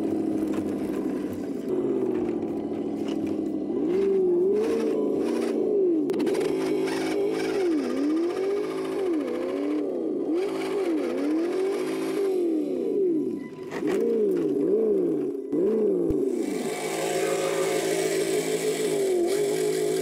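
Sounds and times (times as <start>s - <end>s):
electric rc car motor whining: 0.0s - 20.0s.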